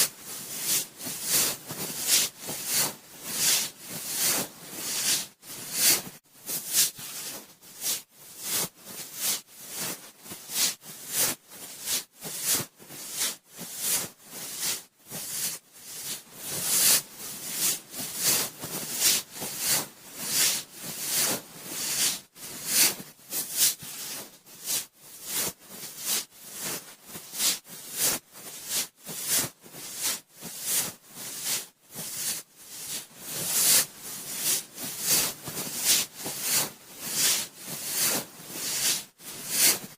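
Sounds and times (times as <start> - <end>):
cotton swab rubbing microphone: 0.0 - 39.9.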